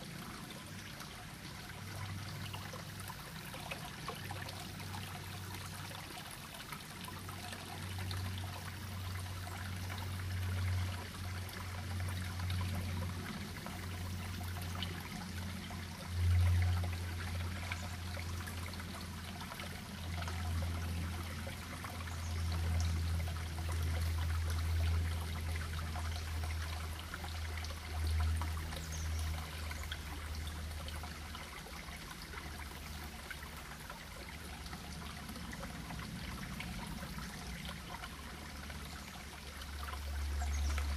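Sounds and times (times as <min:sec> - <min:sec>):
creek flowing over stones: 0:00.0 - 0:40.9.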